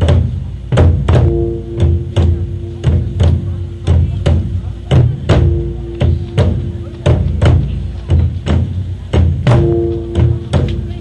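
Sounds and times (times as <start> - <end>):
drums beaten in galloping rhythm: 0.0 - 11.0.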